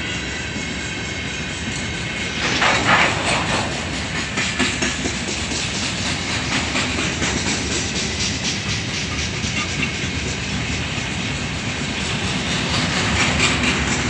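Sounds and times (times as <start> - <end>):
train wheels rumbling on rails: 0.0 - 14.0
wheels clicking over rail joints: 2.4 - 14.0.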